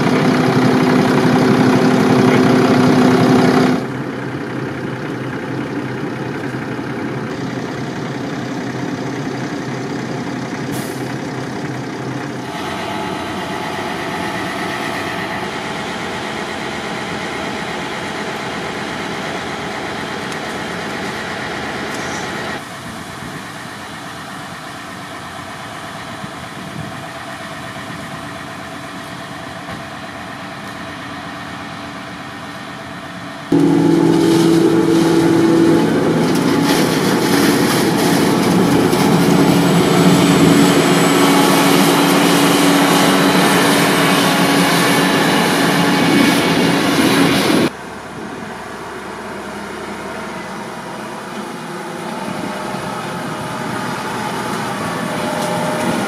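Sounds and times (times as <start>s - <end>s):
farm machinery running: 0.0s - 56.0s
forage harvester droning hum: 0.0s - 56.0s.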